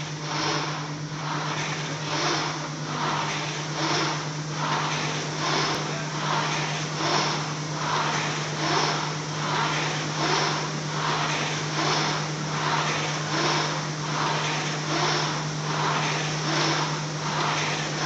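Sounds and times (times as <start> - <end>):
rowing machine flywheel whooshing: 0.0 - 18.0.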